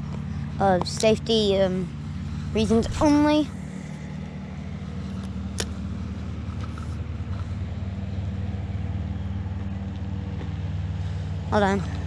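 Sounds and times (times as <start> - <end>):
lawnmower engine running: 0.0 - 12.0.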